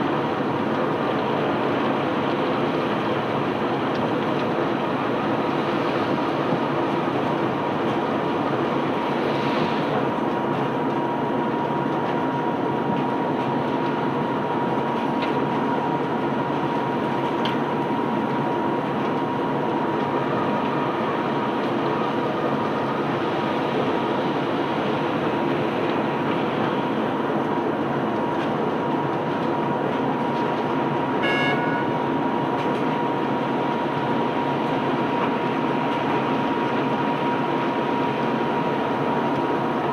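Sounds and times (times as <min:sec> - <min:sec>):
conveyor belt machinery running: 0:00.0 - 0:39.9.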